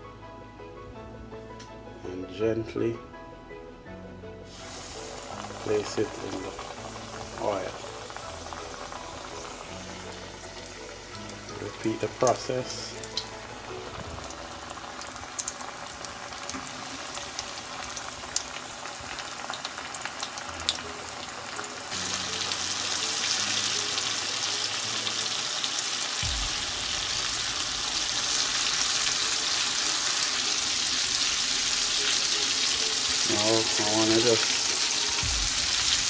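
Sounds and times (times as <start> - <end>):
chicken deep-frying in hot oil: 4.5 - 36.0.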